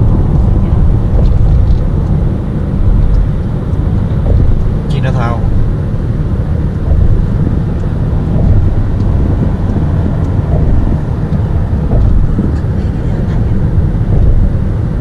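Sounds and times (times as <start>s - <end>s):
road and wind noise in car: 0.0s - 15.0s
wind buffeting microphone: 0.0s - 15.0s.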